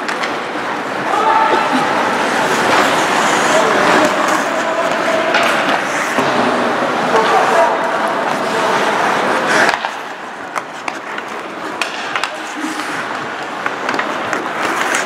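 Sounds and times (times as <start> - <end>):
crowd chatter: 0.0 - 15.0
hockey sticks and puck clacking: 0.0 - 15.0
skates scraping ice: 0.0 - 15.0.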